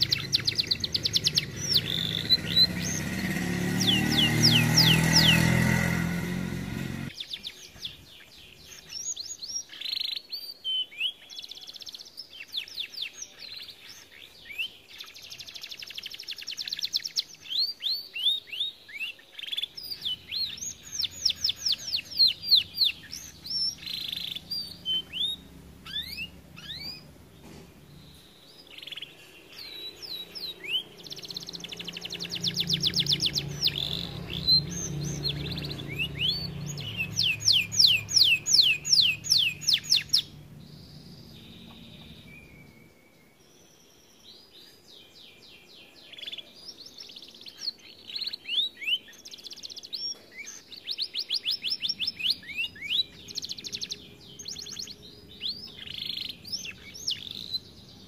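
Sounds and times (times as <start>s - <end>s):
canary singing: 0.0s - 43.4s, 45.2s - 58.0s.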